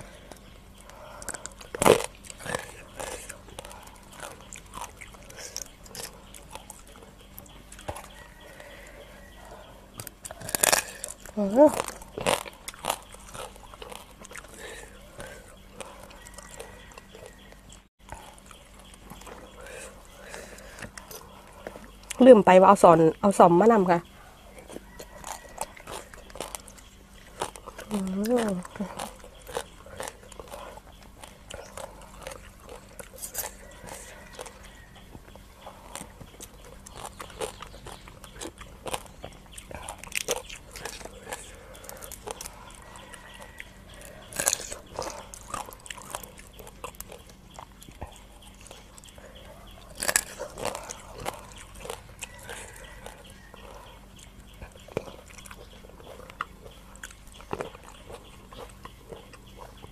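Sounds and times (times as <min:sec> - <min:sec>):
sharp crunches: 0:00.0 - 0:08.9, 0:10.0 - 0:22.2, 0:24.6 - 0:49.2, 0:49.8 - 0:59.9
person chewing crunchy food: 0:00.0 - 0:59.9.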